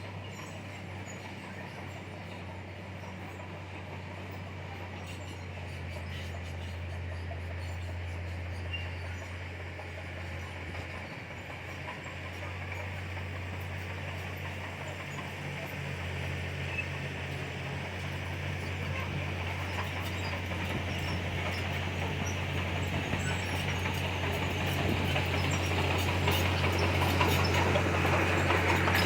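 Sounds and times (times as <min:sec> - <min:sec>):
diesel machinery engine hum: 0:00.0 - 0:29.0
rattly mechanical noise: 0:00.2 - 0:29.0.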